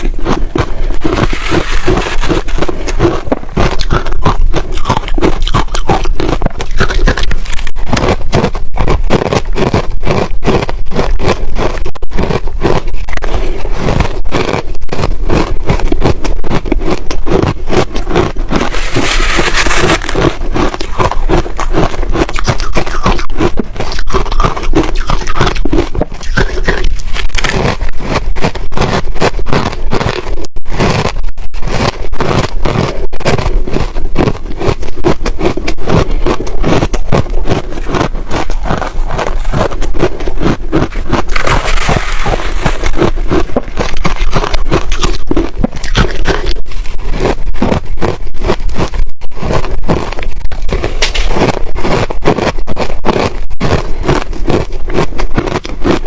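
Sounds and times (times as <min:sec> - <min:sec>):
ice crunching between teeth: 0:00.0 - 0:56.0.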